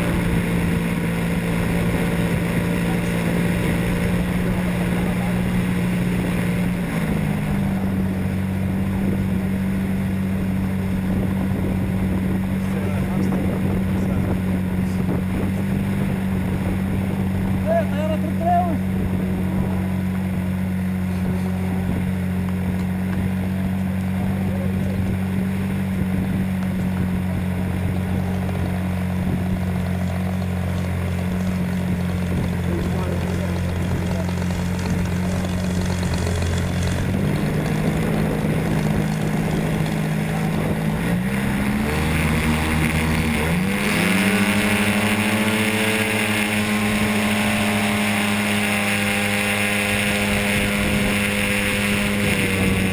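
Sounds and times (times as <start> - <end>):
model airplane motor running: 0.0 - 52.9
wind rushing over microphone: 0.0 - 52.9.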